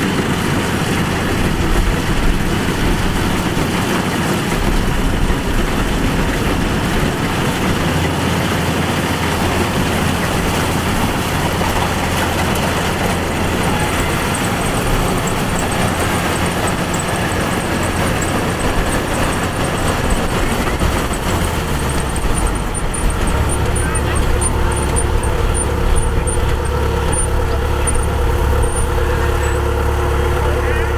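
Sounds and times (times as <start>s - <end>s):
diesel engine humming low: 0.0s - 30.9s
threshing machinery rush: 0.0s - 30.9s.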